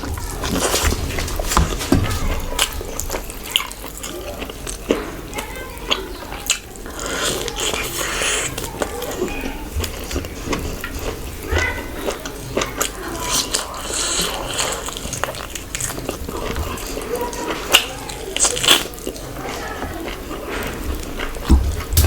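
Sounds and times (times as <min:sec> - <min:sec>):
chewing and mouth smacks: 0:00.0 - 0:22.0.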